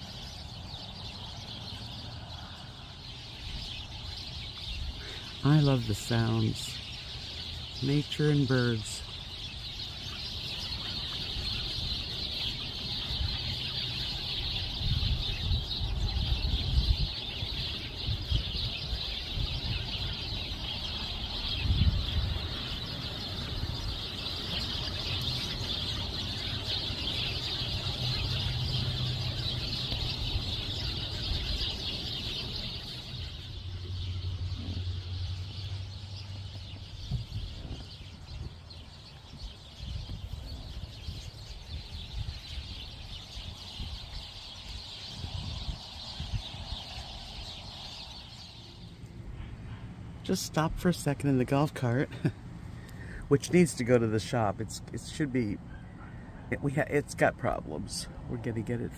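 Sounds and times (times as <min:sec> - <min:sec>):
wild birds chattering: 0:00.0 - 0:58.9.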